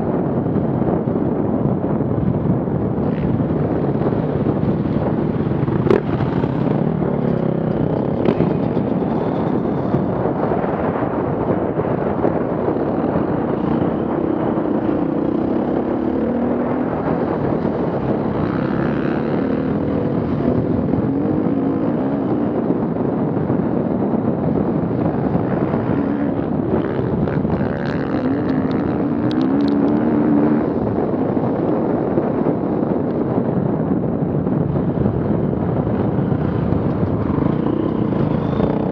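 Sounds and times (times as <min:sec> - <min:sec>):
steady rush of noise: 0:00.0 - 0:38.9
off-road vehicle engines revving: 0:02.9 - 0:31.9, 0:34.7 - 0:38.9.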